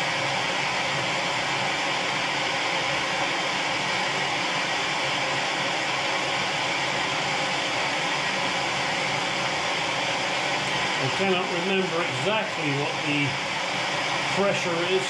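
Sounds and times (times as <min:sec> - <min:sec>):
gas torch hissing: 0:00.0 - 0:15.0.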